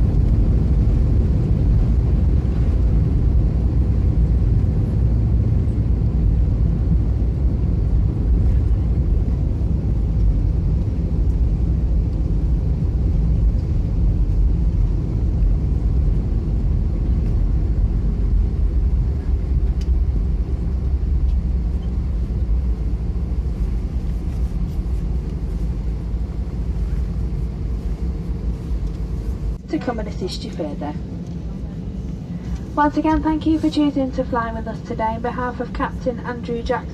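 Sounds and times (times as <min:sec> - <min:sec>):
airliner cabin engine rumble: 0:00.0 - 0:36.9.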